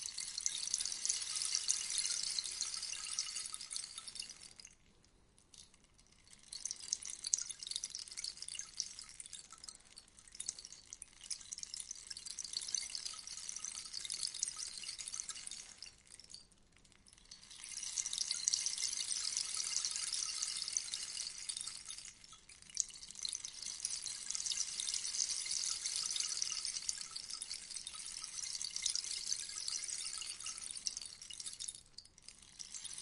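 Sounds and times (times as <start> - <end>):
rainstick pellets trickling: 0.0 - 4.8, 5.6 - 33.0.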